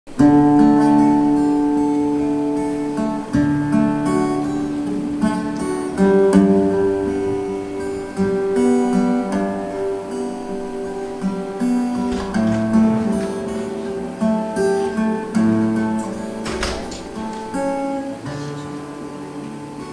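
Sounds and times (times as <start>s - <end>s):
acoustic guitar chords: 0.1s - 19.9s.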